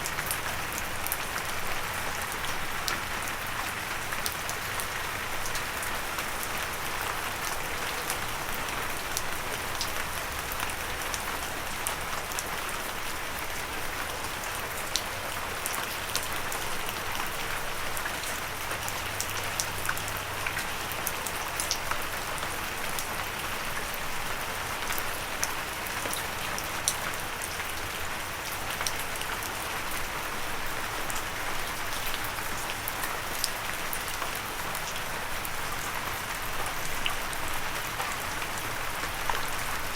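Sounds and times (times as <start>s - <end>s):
gentle rain hiss: 0.0s - 39.9s
raindrops ticking on a surface: 0.0s - 39.9s.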